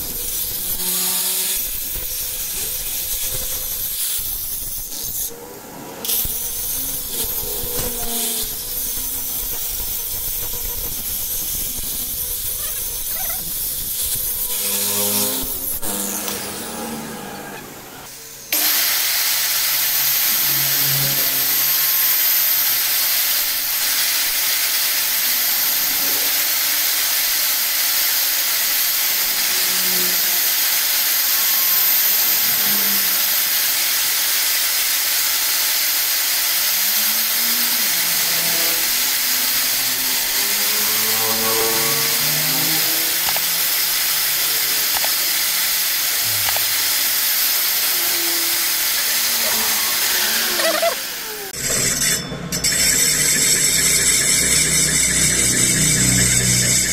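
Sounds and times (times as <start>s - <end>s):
angle grinder sharpening blade: 0.0s - 5.4s, 6.0s - 16.9s, 18.5s - 56.2s.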